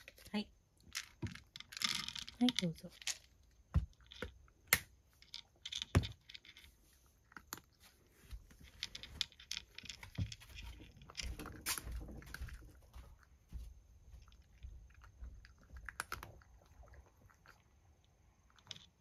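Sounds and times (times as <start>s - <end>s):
cat crunching dry kibble: 0.0s - 13.4s, 14.2s - 19.0s.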